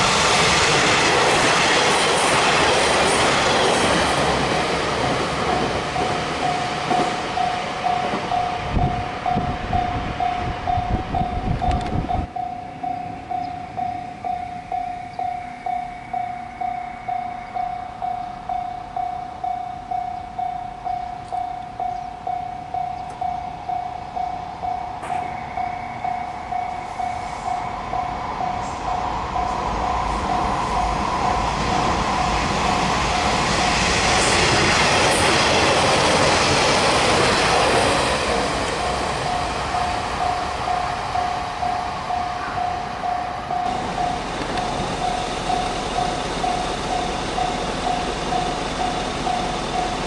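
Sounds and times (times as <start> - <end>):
passing train rumble: 0.0 - 50.0
level crossing alarm bell ringing: 5.8 - 34.2, 34.9 - 50.0.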